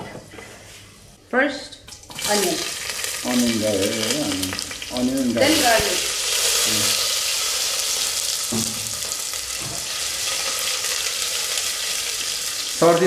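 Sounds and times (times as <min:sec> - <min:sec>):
onion and garlic sizzling in oil: 0:01.9 - 0:13.0.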